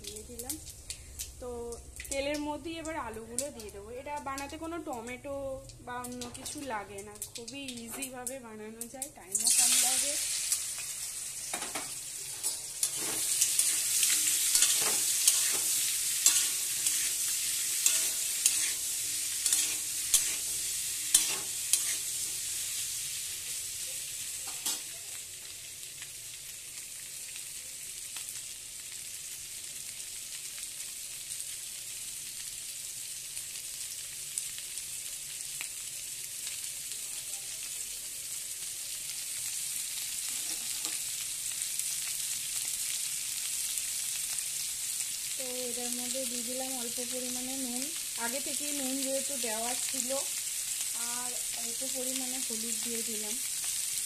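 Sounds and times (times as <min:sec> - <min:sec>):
potatoes sizzling in hot oil: 0:00.0 - 0:54.0.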